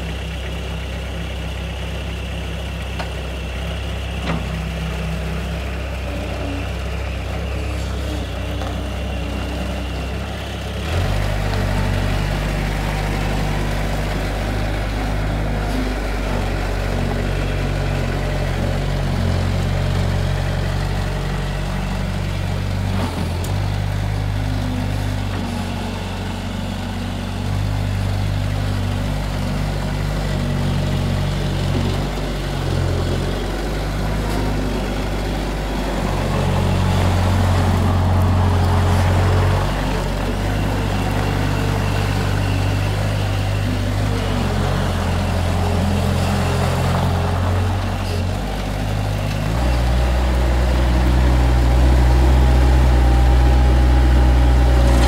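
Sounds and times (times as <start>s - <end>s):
diesel engine: 0.0s - 55.0s.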